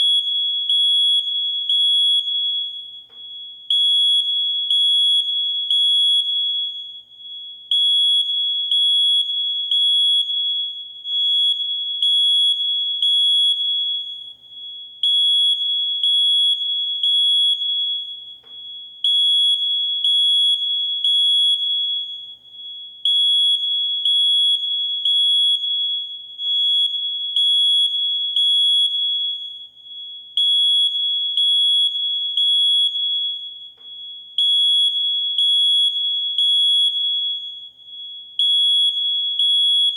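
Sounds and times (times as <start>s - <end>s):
smoke alarm beeping: 0.0s - 39.9s.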